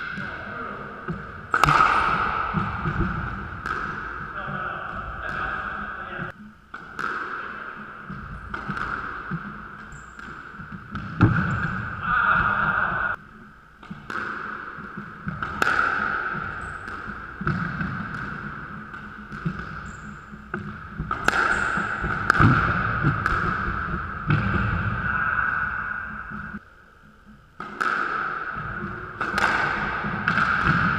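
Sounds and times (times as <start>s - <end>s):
squash ball hits echoing: 0.0s - 13.2s, 13.8s - 26.6s, 27.6s - 30.9s.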